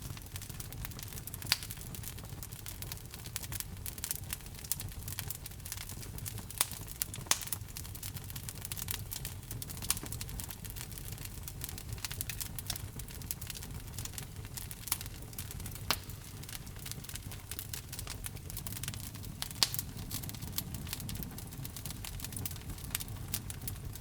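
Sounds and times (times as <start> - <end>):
fireplace fire crackling and popping: 0.0 - 24.0.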